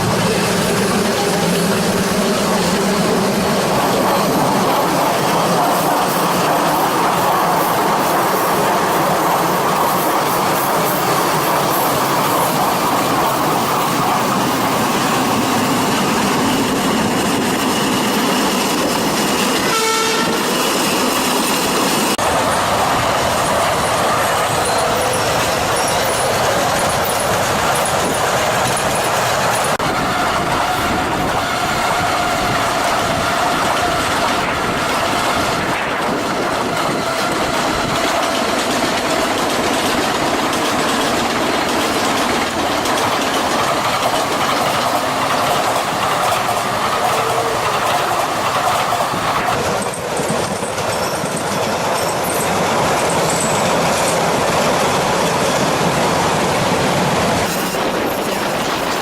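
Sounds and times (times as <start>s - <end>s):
train whine: 0.0s - 59.0s.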